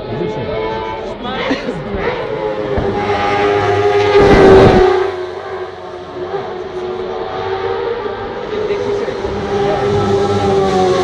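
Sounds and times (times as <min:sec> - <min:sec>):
racing engine passing at high revs: 0:00.0 - 0:11.0.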